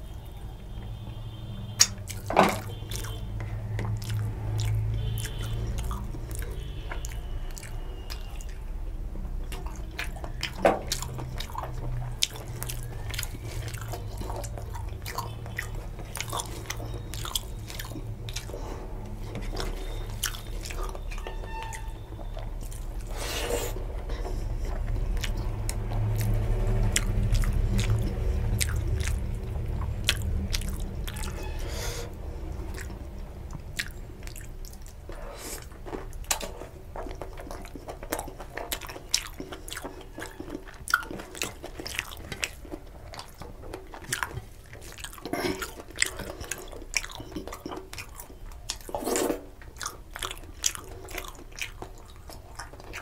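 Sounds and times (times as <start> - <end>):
person chewing with mouth smacks: 1.7 - 53.0.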